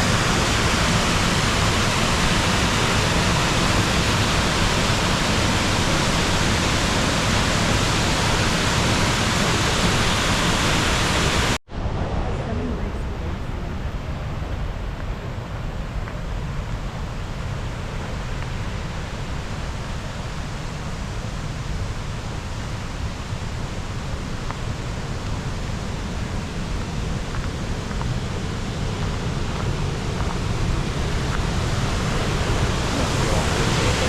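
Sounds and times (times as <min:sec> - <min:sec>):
fast-flowing water rushing: 0:00.0 - 0:11.6, 0:17.2 - 0:34.0.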